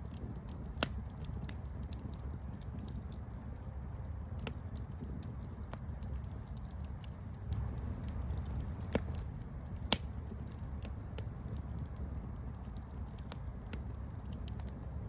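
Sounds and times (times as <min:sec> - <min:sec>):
campfire rumbling: 0:00.0 - 0:15.0
campfire snapping and popping: 0:00.0 - 0:15.0.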